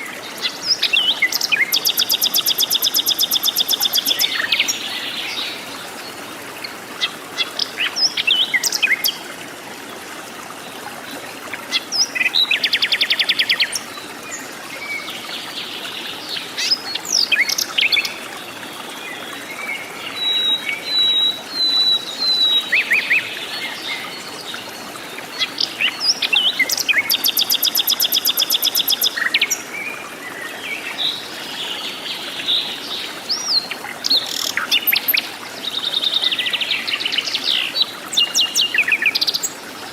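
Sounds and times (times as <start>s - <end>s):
forest birds singing: 0.0s - 9.2s, 11.7s - 39.9s.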